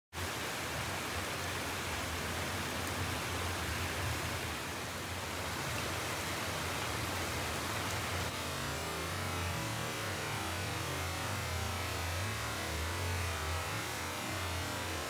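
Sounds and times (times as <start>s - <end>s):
rain hissing on hedge and path: 0.2s - 15.0s.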